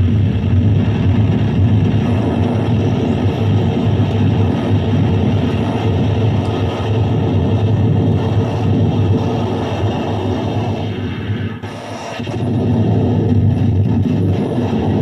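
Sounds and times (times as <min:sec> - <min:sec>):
dense wall of noise: 0:00.0 - 0:15.0
strong low hum: 0:00.0 - 0:15.0.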